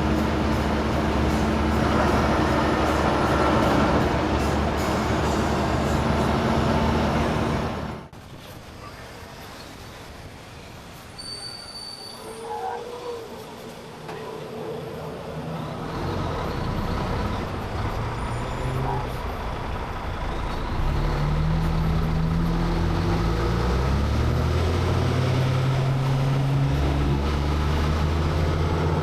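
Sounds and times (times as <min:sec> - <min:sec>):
truck diesel engine: 0:00.0 - 0:08.2, 0:13.6 - 0:29.0.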